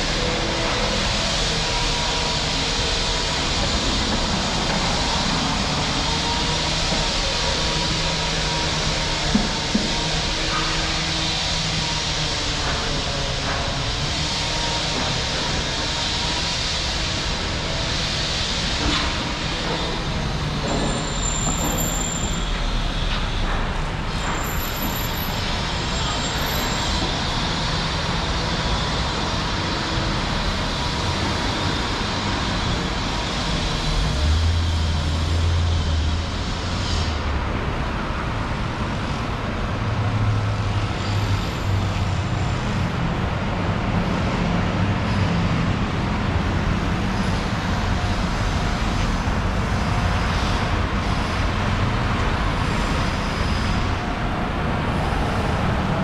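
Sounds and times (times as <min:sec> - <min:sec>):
high whine from passing vehicle: 0:00.0 - 0:56.0
road traffic passing: 0:00.0 - 0:56.0.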